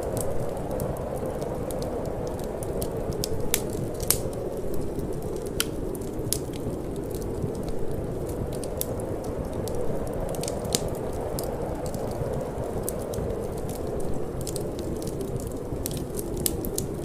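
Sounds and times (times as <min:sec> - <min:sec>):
fire popping and snapping: 0:00.0 - 0:17.0
wood fire crackling: 0:00.0 - 0:17.0.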